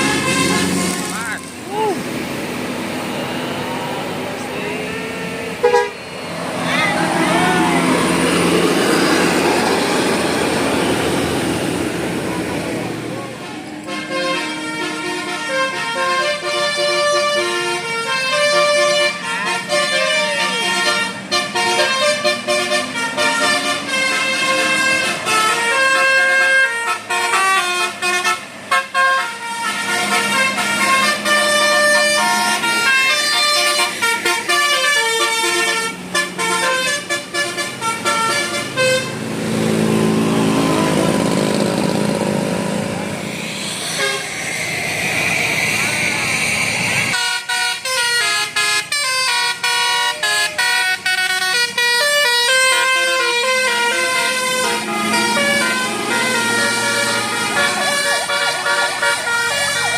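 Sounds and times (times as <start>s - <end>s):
bus musical horn melody: 0.0s - 1.3s, 3.0s - 11.8s, 13.4s - 41.3s, 43.9s - 44.4s, 47.0s - 59.9s
vehicle rumble: 0.0s - 59.9s.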